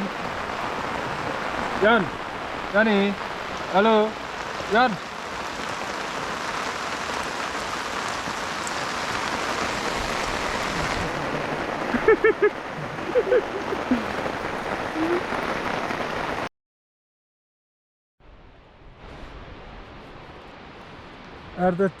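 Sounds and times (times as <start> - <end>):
heavy rain: 0.0 - 16.5, 18.3 - 22.0.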